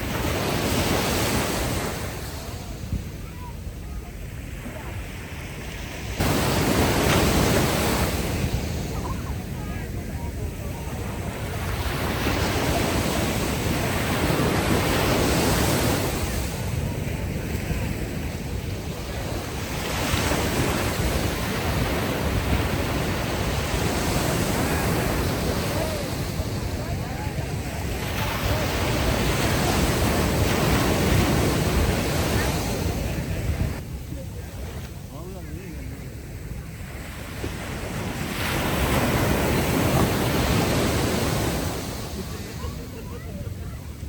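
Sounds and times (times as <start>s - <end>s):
ocean waves washing onto beach: 0.0s - 44.0s
wind rumble on microphone: 0.0s - 44.0s.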